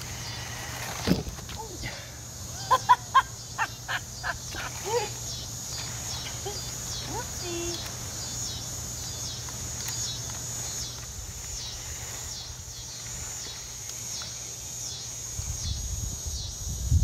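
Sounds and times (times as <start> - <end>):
insects singing in chorus: 0.0 - 17.0.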